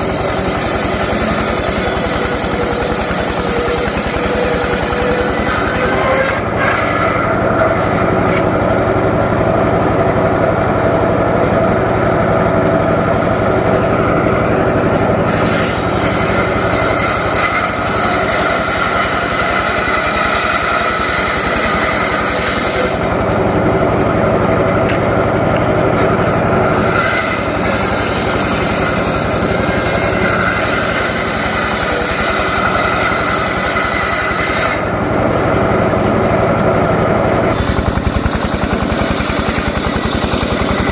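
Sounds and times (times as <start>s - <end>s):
engine-driven saw cutting timber: 0.0s - 40.9s.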